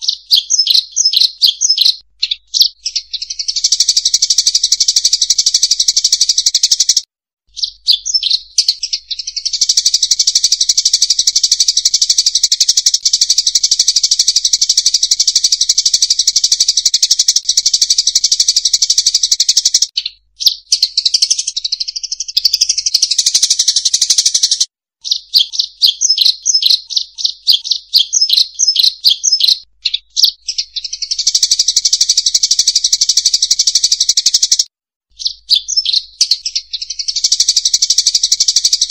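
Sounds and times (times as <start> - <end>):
birds chattering with high chirps: 0.0 - 34.6, 35.2 - 38.9.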